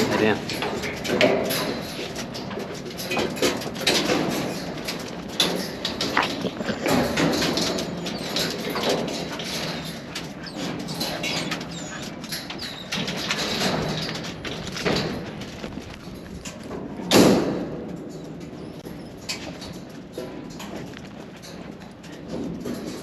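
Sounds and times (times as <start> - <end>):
horse hooves on ground: 0.0 - 23.0.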